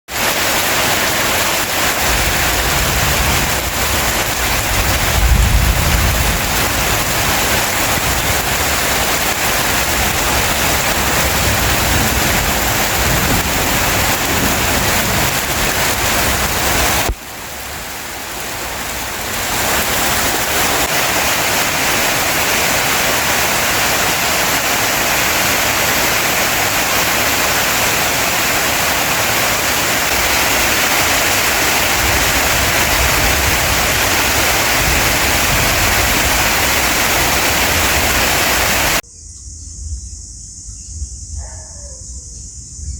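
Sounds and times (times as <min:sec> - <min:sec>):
heavy rain hissing: 0:00.1 - 0:39.0.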